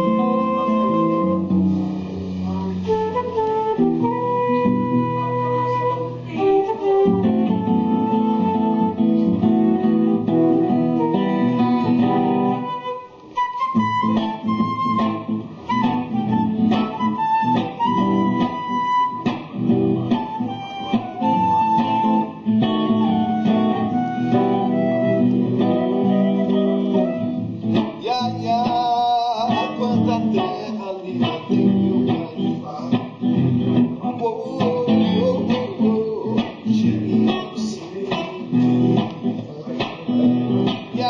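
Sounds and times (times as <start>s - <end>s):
guitar plucking and strumming: 0.0s - 41.0s.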